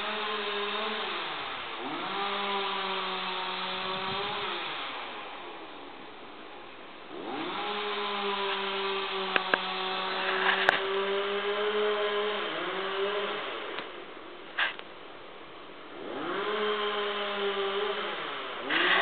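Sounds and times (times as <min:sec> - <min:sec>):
chainsaw idling and revving: 0:00.0 - 0:05.8, 0:07.0 - 0:14.8, 0:15.7 - 0:19.0.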